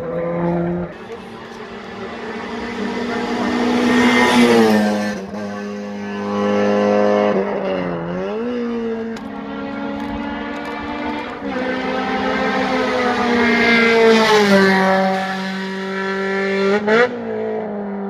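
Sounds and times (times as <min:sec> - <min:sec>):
rally car accelerating past: 0:00.2 - 0:18.0.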